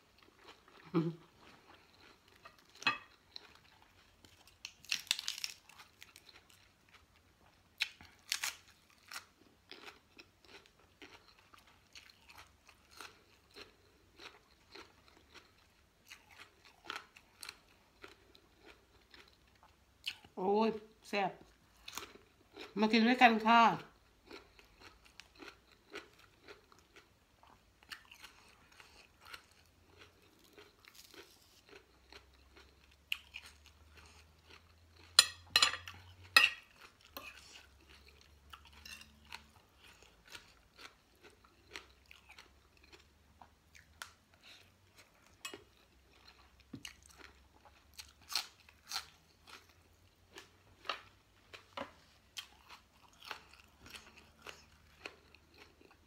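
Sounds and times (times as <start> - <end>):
crunching and chewing food: 0.0 - 20.5, 21.4 - 56.0.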